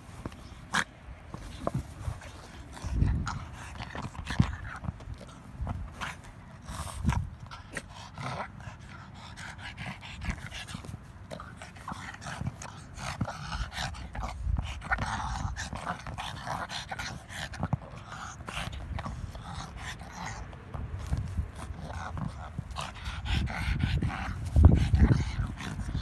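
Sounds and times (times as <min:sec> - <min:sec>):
knocks and scrapes on a ball: 0:00.0 - 0:07.9, 0:09.9 - 0:23.0.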